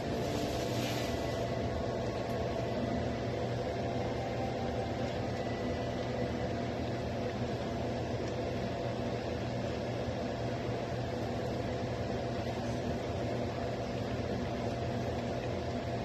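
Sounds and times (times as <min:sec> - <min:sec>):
range hood fan humming: 0:00.0 - 0:16.0.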